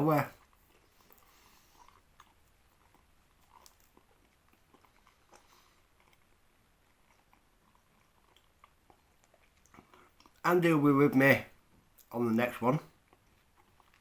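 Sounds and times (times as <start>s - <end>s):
wet chewing clicks and smacks: 0.2s - 10.5s, 11.5s - 12.2s, 12.8s - 14.0s.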